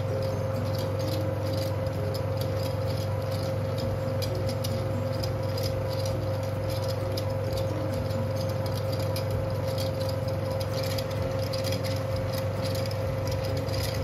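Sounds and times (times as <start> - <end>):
film projector motor humming: 0.0 - 14.0.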